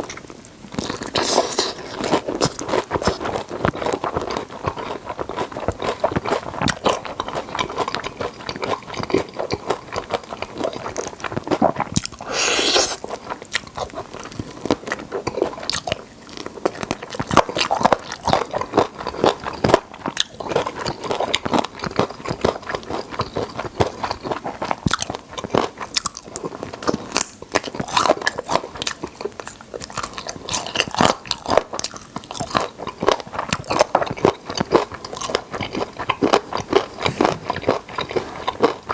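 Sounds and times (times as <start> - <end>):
crunching and chewing fried chicken: 0.0 - 38.9.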